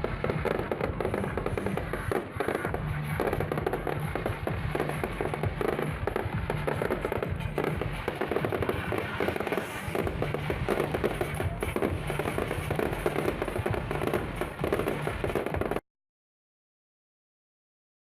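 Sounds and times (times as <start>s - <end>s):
fireworks popping and crackling: 0.0s - 15.8s
music playing: 0.0s - 15.8s.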